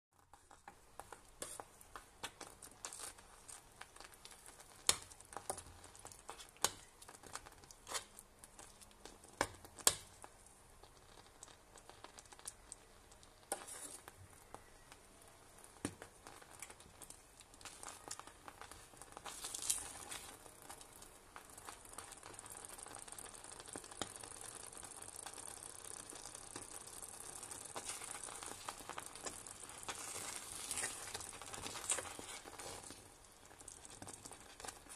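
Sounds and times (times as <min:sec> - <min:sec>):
spinach sizzling in a pan: 0:00.2 - 0:34.9
spoon stirring in pan: 0:00.2 - 0:34.9.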